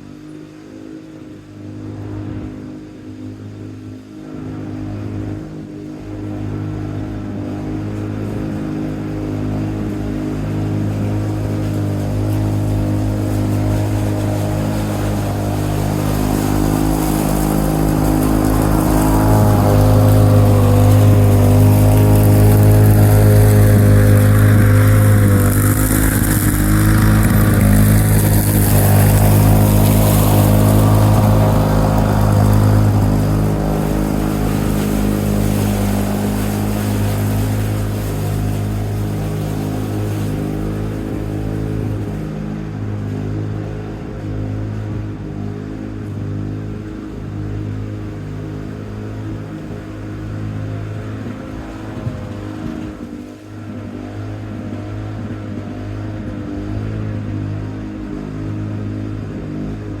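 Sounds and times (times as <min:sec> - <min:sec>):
lawn mower engine running: 0:00.0 - 1:00.0.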